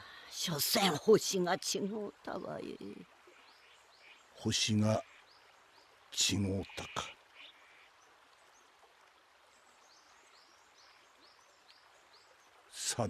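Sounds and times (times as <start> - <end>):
faint outdoor ambience hiss: 0.0 - 13.0.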